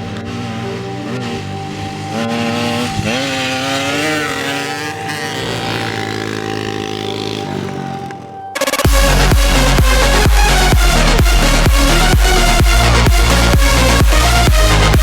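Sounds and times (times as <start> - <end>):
moped engines revving: 0.0 - 15.0.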